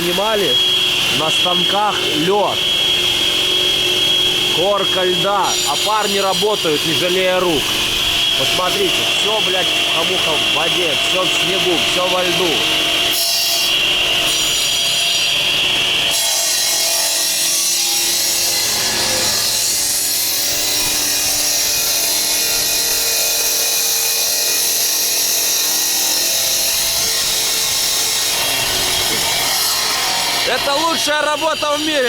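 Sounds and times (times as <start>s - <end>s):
electric saw cutting brick: 0.0s - 32.0s.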